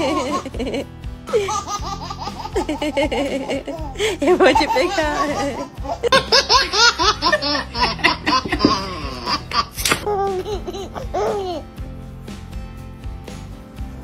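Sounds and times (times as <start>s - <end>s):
babies laughing: 0.0s - 11.8s.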